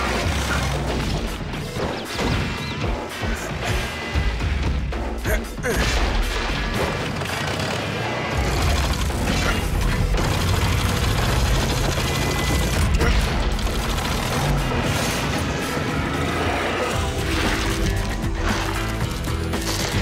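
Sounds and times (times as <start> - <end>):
background music: 0.0 - 20.0
mechanical clanking and whirring: 0.0 - 20.0.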